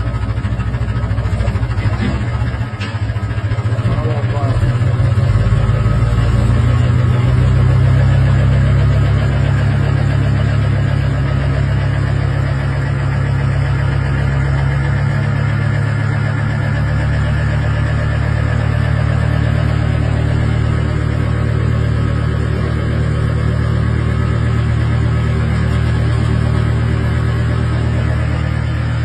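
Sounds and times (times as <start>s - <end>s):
steady low engine drone: 0.0s - 29.0s.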